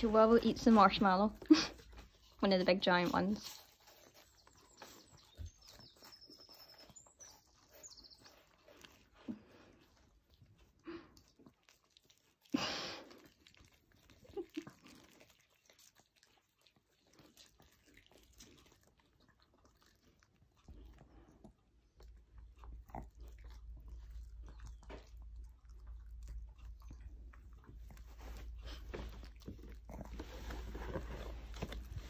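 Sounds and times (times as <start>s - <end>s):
dog chewing and licking: 0.0s - 32.0s.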